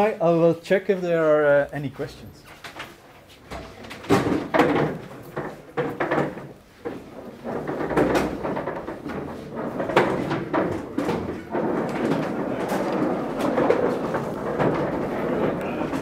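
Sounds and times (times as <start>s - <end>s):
chairs knocking and scraping: 2.4s - 16.0s.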